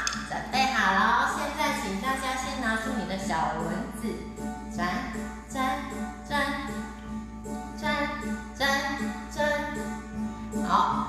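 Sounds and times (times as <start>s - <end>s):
backing music: 0.0s - 11.0s
woman singing children's song: 0.0s - 11.0s.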